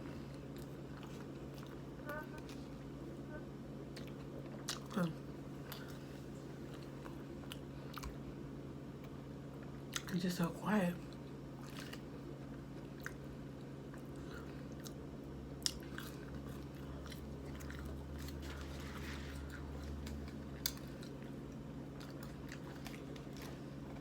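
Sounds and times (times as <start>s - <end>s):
person chewing food: 0.0s - 3.2s, 3.9s - 8.4s, 11.1s - 24.0s.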